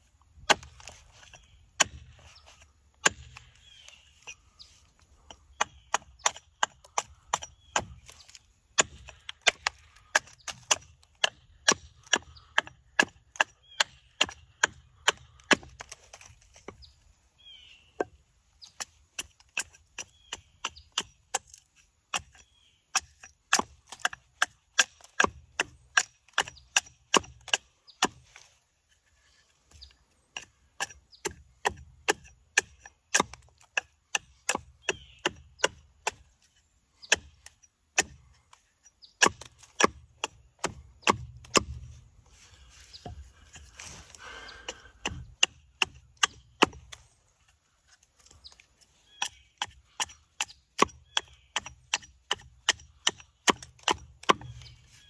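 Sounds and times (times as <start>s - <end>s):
blade chopping wood: 0.4s - 2.3s, 3.0s - 3.6s, 5.2s - 16.8s, 18.0s - 28.5s, 29.7s - 38.6s, 39.2s - 42.0s, 43.0s - 47.1s, 48.2s - 54.8s.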